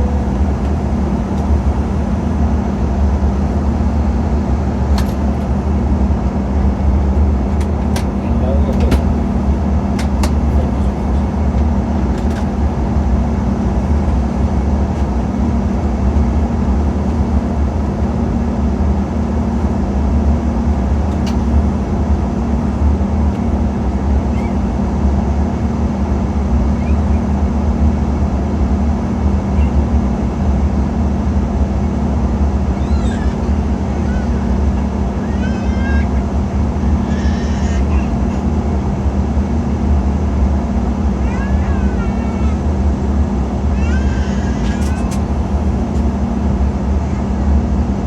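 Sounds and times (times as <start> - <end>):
jet cabin engine and airflow drone: 0.0 - 48.0.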